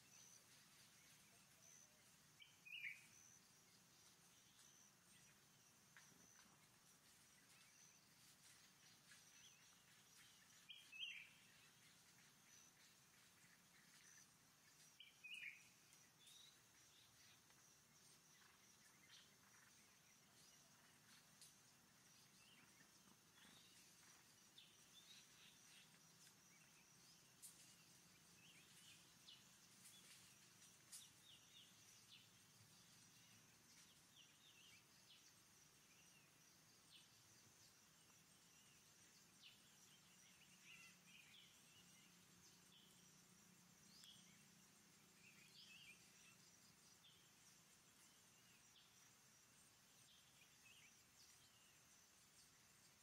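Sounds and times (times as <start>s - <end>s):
faint bird chirps: 0.0s - 53.0s.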